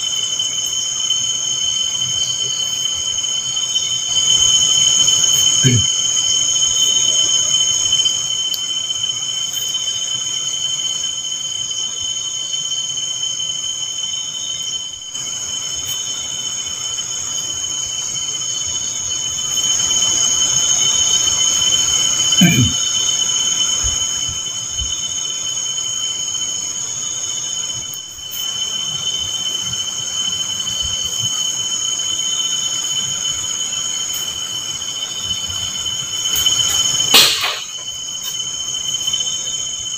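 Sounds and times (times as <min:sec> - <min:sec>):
night insects chirring: 0:00.0 - 0:39.9.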